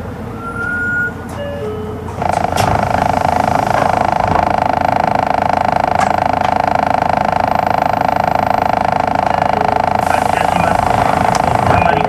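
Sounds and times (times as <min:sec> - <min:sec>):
electronic buzzer tone: 0:00.3 - 0:11.0.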